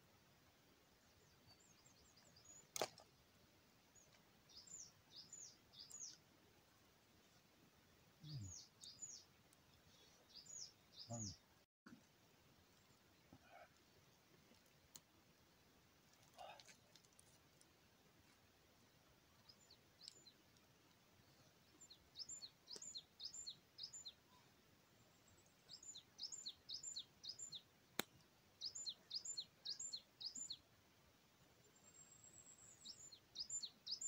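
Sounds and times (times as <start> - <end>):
songbird singing: 0.7 - 7.4, 8.1 - 11.6, 12.5 - 17.8, 18.8 - 30.8, 31.4 - 34.0.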